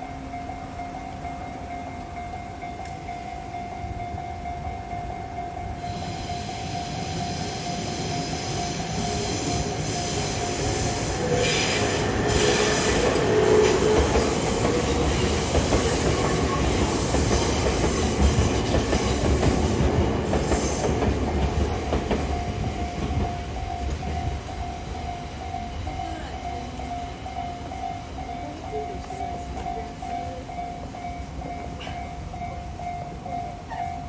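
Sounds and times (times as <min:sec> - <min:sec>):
crossing warning bell ringing: 0:00.0 - 0:34.0
train passing over rails: 0:00.0 - 0:34.0.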